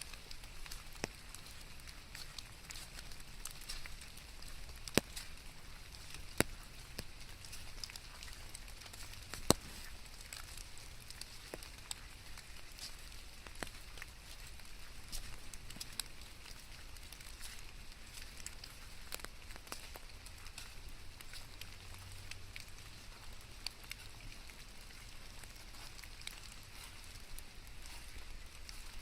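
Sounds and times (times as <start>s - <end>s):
light rain hiss: 0.0s - 29.0s
sharp raindrop ticks: 0.0s - 29.0s.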